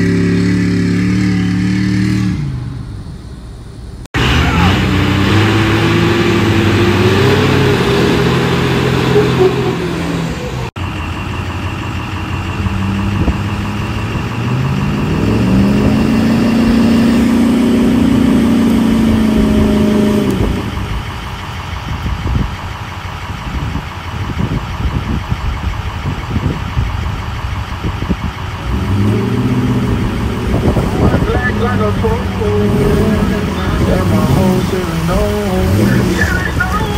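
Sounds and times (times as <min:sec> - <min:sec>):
truck engine revving through mud: 0:00.0 - 0:03.0, 0:04.1 - 0:36.9
truck engines revving hard: 0:00.0 - 0:36.9.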